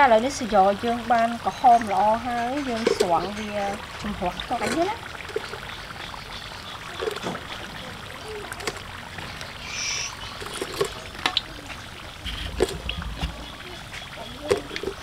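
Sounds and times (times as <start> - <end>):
oil sizzling and bubbling: 0.0 - 15.0.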